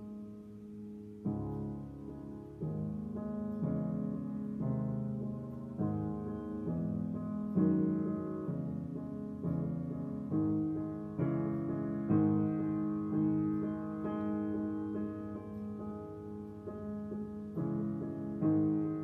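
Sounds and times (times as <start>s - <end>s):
piano chords ringing: 0.0s - 19.0s.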